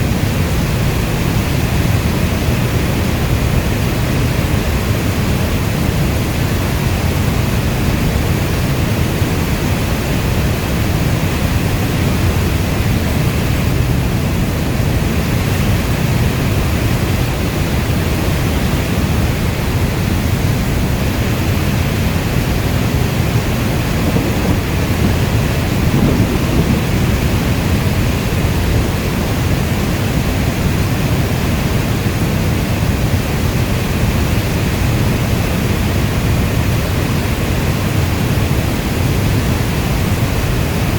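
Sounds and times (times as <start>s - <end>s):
heavy rainfall: 0.0s - 40.9s.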